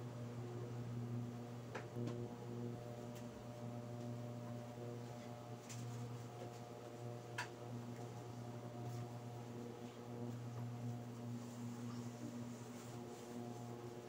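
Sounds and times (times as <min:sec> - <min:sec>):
induction cooktop hum: 0:00.0 - 0:14.0.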